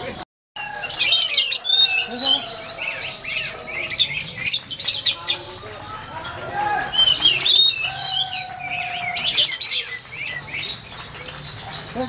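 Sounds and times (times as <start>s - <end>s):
songbirds chirping and twittering: 0.0s - 12.0s.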